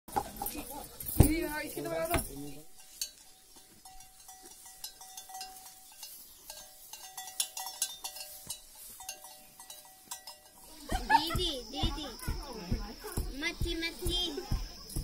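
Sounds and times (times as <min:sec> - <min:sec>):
cattle bell clinking: 0:00.1 - 0:12.4.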